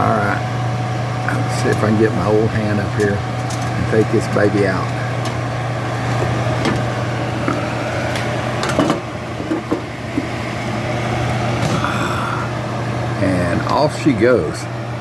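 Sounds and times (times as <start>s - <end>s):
range hood fan humming: 0.0s - 15.0s.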